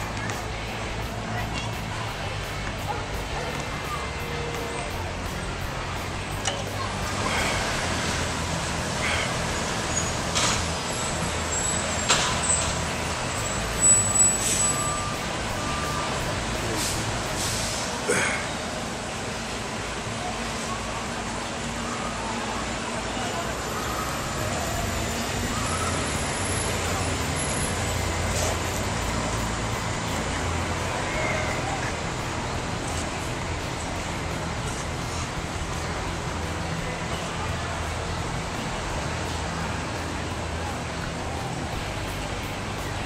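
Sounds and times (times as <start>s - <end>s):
city street traffic: 0.0s - 43.0s
truck engine running: 0.0s - 43.0s.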